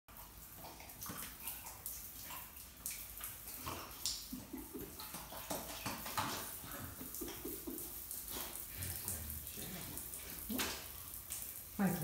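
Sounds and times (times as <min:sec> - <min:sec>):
irregular splashes: 0:00.1 - 0:12.0
shower water splashing on tiles: 0:00.1 - 0:12.0.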